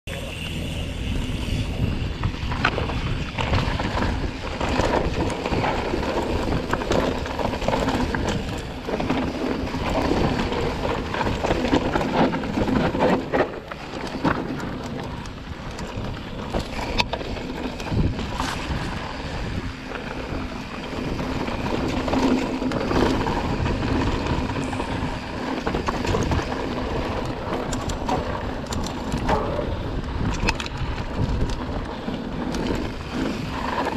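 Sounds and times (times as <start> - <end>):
bike knocking and rattling: 0.1 - 33.9
wind buffeting microphone: 0.1 - 33.9
tyres rolling over dirt and stones: 2.0 - 33.9.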